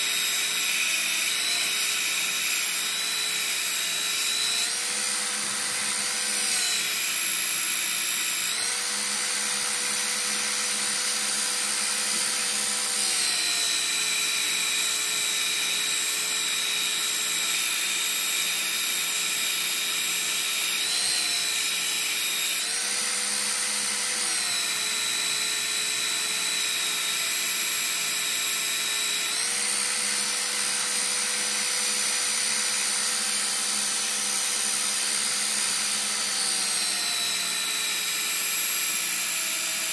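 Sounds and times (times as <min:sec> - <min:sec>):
belt sander motor whine: 0:00.0 - 0:39.9.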